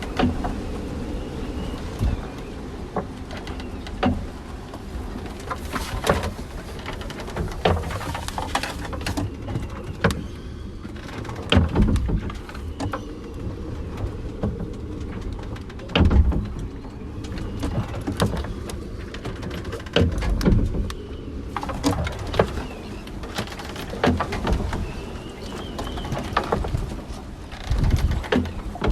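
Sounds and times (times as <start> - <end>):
boat gear knocking and rattling: 0.0 - 28.9
wind buffeting microphone: 0.0 - 28.9.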